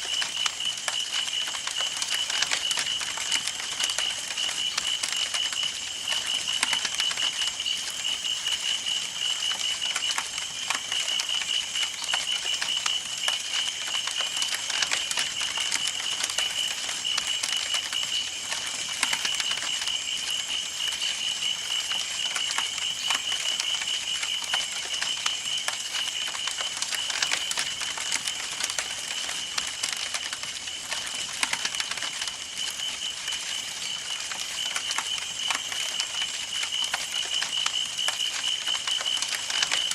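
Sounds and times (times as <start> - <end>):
wood crackling and popping: 0.0 - 39.9.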